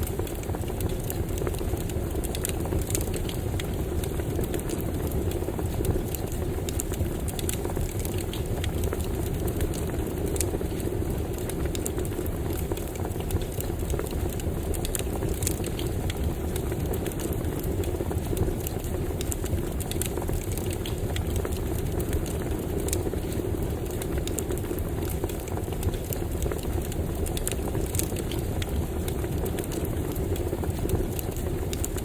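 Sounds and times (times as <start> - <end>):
campfire flame rushing: 0.0 - 32.0
wood crackling and popping: 0.0 - 32.0.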